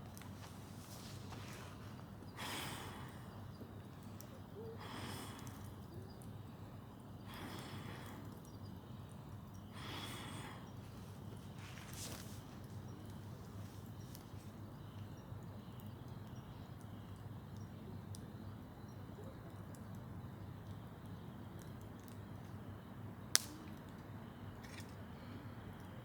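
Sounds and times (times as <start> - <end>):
faint low background noise: 0.0 - 26.0
faint ticks: 0.0 - 26.0.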